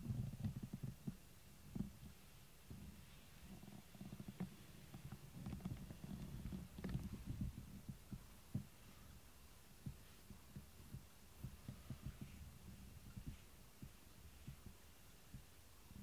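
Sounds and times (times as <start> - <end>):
cat purring: 1.8 - 16.0.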